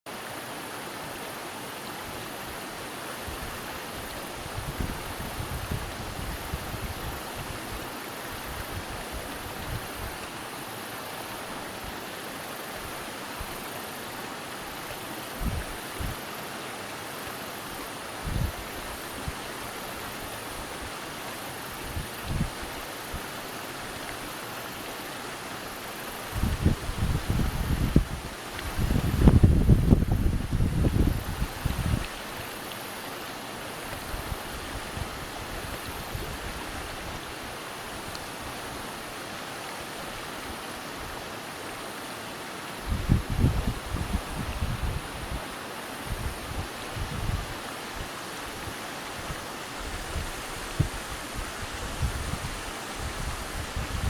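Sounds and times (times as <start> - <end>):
stream water rushing: 0.1 - 54.0.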